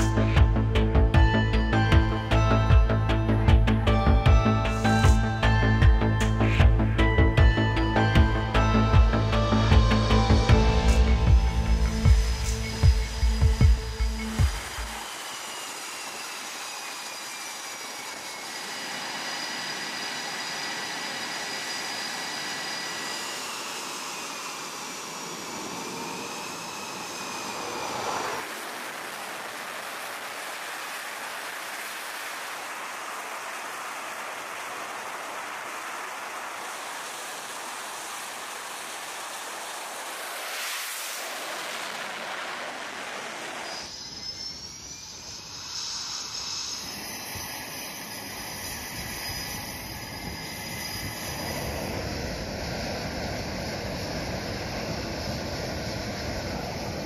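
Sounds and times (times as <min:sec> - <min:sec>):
jet engines whining and rushing: 0:00.0 - 0:57.0.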